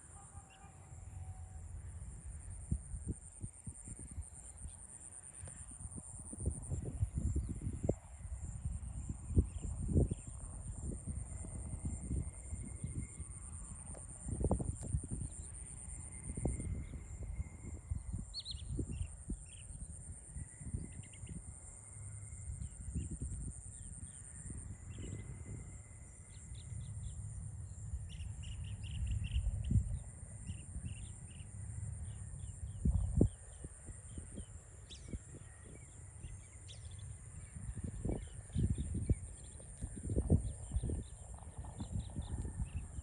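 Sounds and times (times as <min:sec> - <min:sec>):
insect drone: 0:00.0 - 0:43.0.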